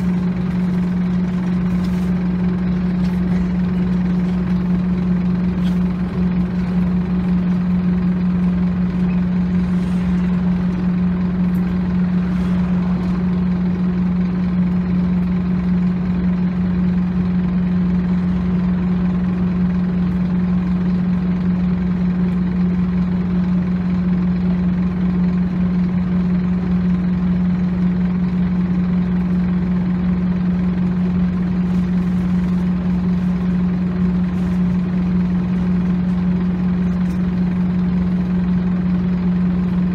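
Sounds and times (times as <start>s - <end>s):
bus diesel engine humming: 0.0s - 39.9s.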